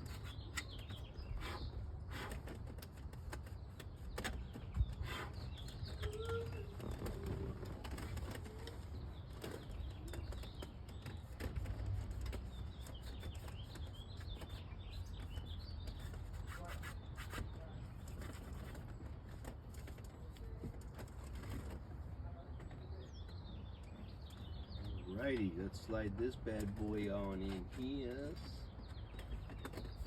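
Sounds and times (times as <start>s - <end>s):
birds chirping: 0.0s - 19.7s, 20.3s - 30.0s.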